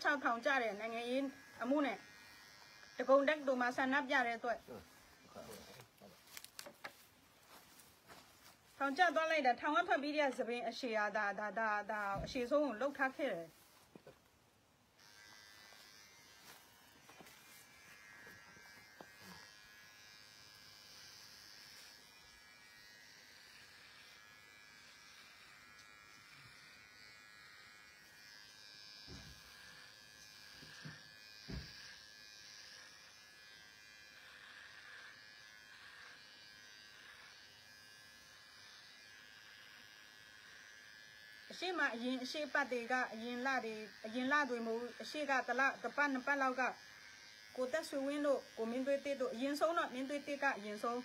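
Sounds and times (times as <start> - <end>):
electric hair clipper buzzing: 0.0 - 7.6, 14.9 - 51.0.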